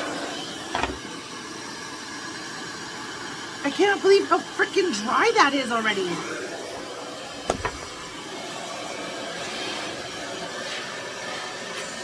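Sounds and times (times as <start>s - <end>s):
blow dryer rushing air: 0.0s - 2.9s, 5.3s - 12.0s.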